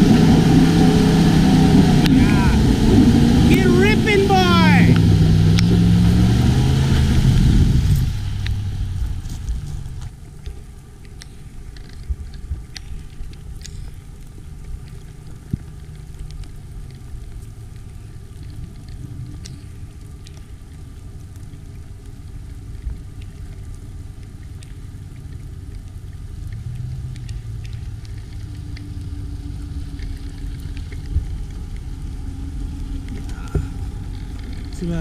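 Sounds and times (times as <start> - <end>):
pickup engine rumble: 0.0 - 35.0
tyres on dirt: 0.0 - 35.0.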